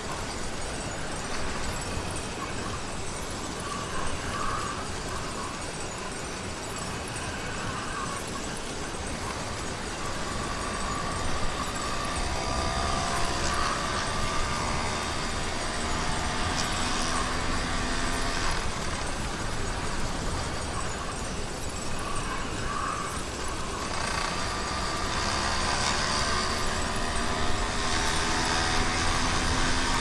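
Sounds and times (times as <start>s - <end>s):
small bicycle engine running: 0.0s - 30.0s.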